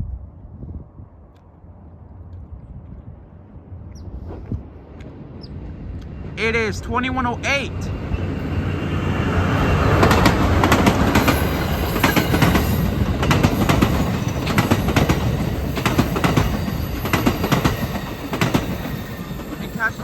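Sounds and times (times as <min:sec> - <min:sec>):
train rumbling past: 0:03.6 - 0:20.0.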